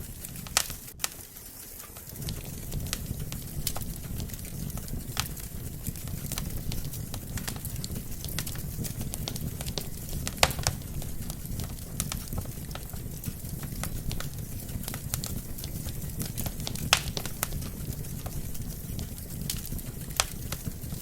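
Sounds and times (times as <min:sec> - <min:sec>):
fire crackling: 0:00.0 - 0:21.0
low rumble of fire flames: 0:00.0 - 0:21.0
sharp pops from fire: 0:00.0 - 0:21.0.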